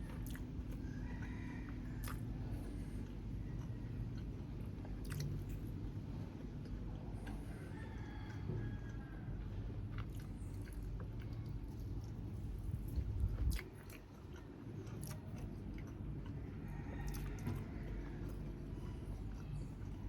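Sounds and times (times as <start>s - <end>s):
chewing and biting food: 0.0s - 20.0s.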